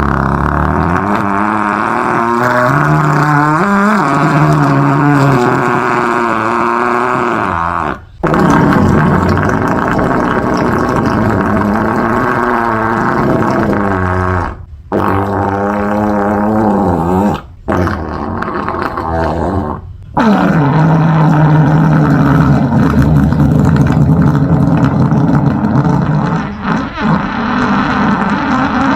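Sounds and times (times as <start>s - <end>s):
buzzing fart sounds: 0.0s - 28.9s.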